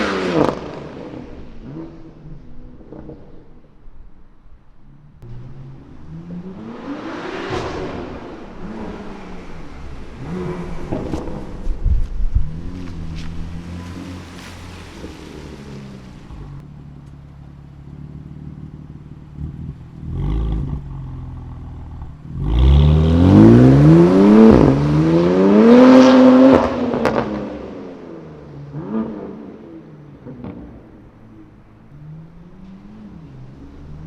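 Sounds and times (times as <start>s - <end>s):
car engine accelerating: 0.0s - 4.2s, 5.0s - 34.0s.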